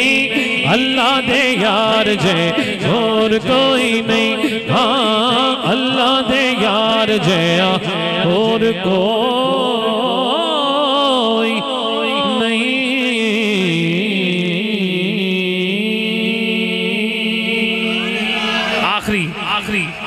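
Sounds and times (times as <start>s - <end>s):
man singing into microphone: 0.0s - 20.0s.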